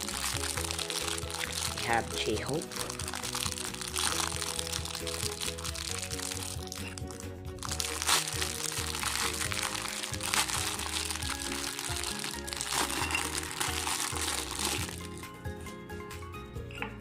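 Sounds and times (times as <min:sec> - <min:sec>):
plastic packaging crinkling: 0:00.0 - 0:15.2
background music: 0:00.0 - 0:17.0.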